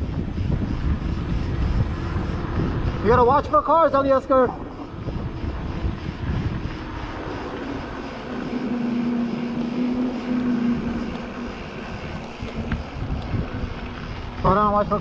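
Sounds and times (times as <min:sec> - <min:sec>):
steady buzzing tone: 0:00.0 - 0:15.0
tyres rolling on pavement: 0:00.0 - 0:15.0
wind rushing over microphone: 0:00.0 - 0:15.0.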